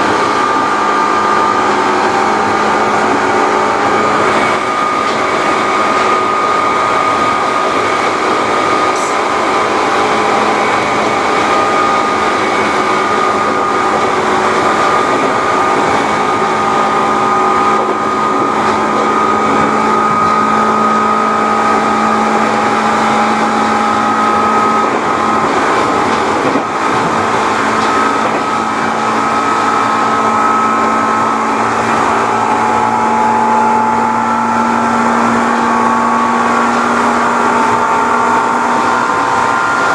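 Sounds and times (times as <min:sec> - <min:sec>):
traction motor whine: 0:00.0 - 0:39.9
wheels rumbling on rail: 0:00.0 - 0:39.9.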